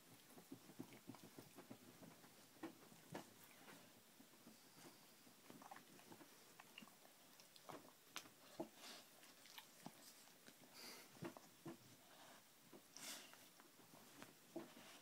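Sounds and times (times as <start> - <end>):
faint clicks and soft rustles: 0.0 - 15.0.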